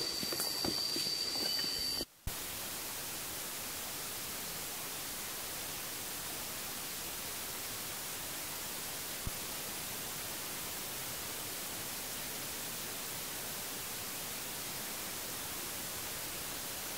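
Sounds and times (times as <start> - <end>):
steady hiss: 0.0 - 16.9.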